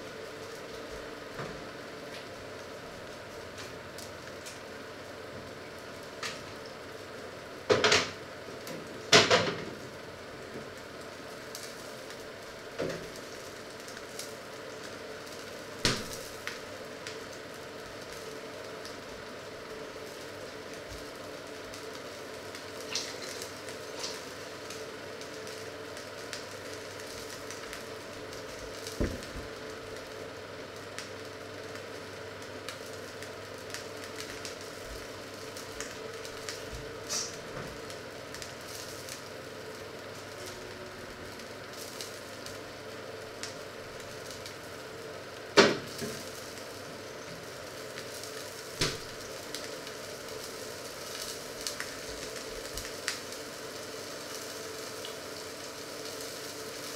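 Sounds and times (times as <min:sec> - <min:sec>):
faint steady hum: 0:00.0 - 0:56.9
fat sizzling in a pan: 0:00.0 - 0:56.9.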